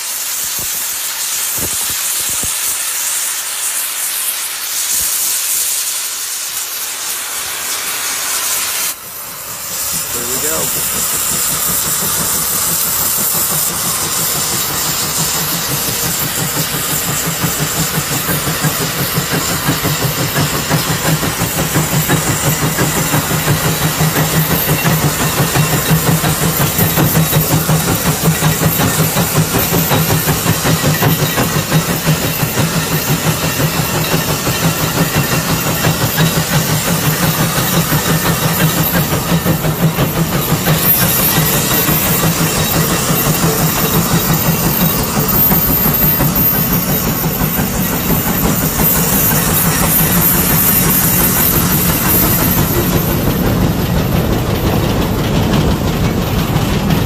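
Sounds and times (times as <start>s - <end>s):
steam engine exhaust chuffing: 0.0s - 57.0s
steam hissing: 0.0s - 57.0s.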